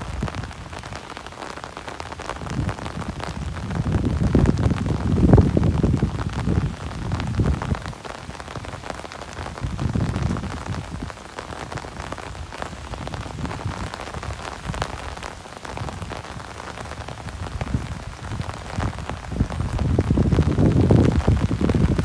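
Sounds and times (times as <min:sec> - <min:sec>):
rain pattering on an umbrella: 0:00.0 - 0:22.0.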